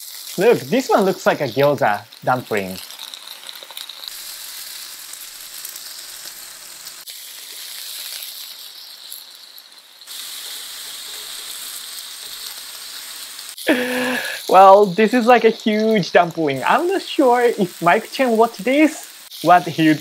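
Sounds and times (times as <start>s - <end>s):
dumplings sizzling in oil: 0.0s - 20.0s.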